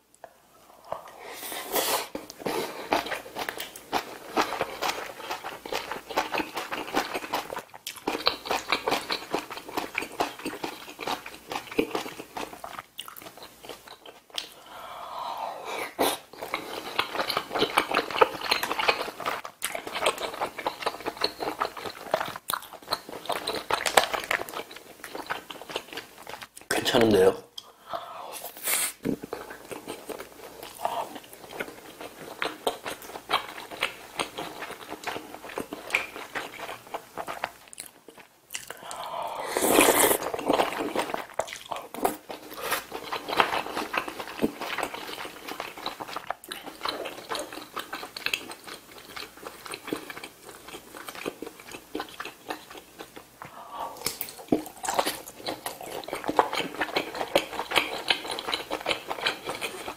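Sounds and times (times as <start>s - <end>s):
wet chewing: 2.1s - 14.6s, 15.8s - 26.7s, 29.1s - 59.9s.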